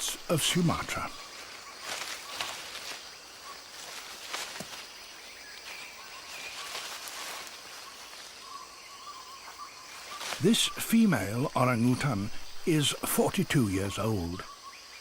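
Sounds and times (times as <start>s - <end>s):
birds calling: 0.0s - 15.0s
insects hissing: 0.0s - 15.0s.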